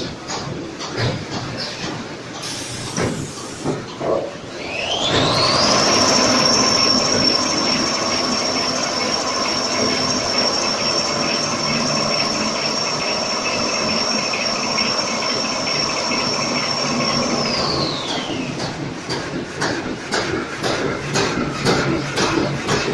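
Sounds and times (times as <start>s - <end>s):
rollers and conveyors clattering: 0.0s - 22.9s.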